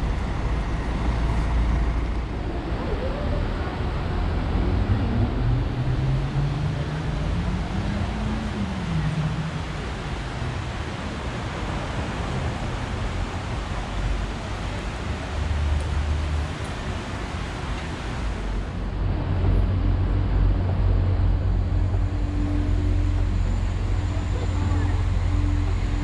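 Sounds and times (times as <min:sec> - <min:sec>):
large vehicle engine rumble: 0:00.0 - 0:26.0
road traffic: 0:00.0 - 0:26.0.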